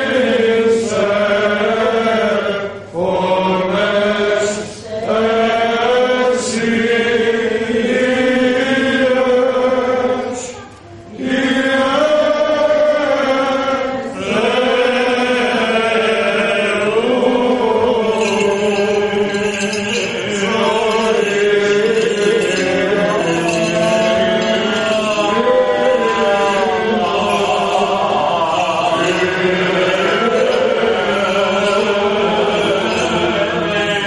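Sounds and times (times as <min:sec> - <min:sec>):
voices chanting: 0:00.0 - 0:34.0.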